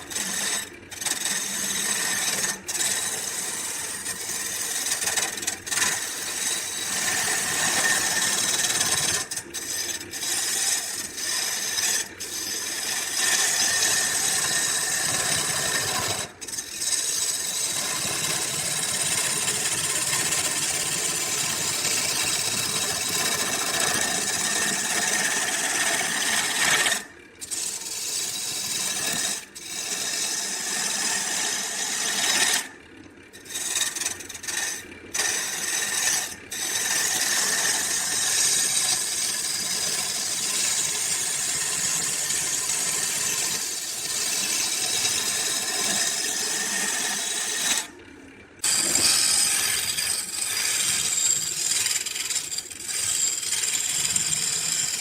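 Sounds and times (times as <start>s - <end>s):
power tool whirring: 0.0s - 32.7s, 33.3s - 47.9s, 48.6s - 55.0s.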